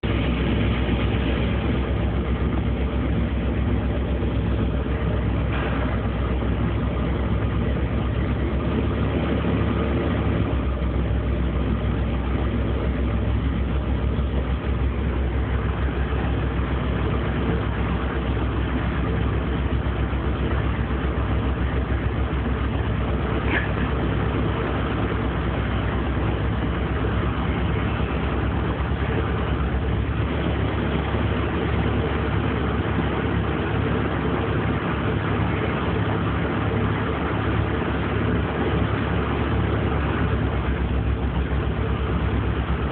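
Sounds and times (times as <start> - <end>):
machine engine humming: 0.0 - 42.9.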